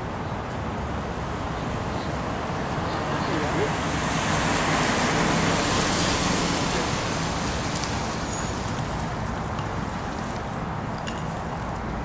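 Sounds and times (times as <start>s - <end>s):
background traffic noise: 0.0s - 12.0s.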